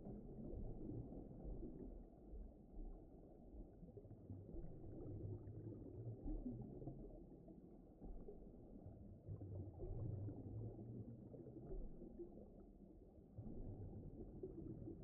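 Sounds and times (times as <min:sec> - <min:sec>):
muffled underwater rumbling: 0:00.0 - 0:15.0.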